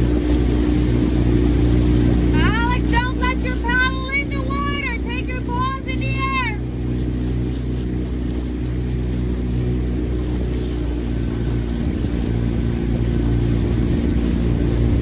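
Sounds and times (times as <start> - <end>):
outboard engine humming: 0.0 - 15.0.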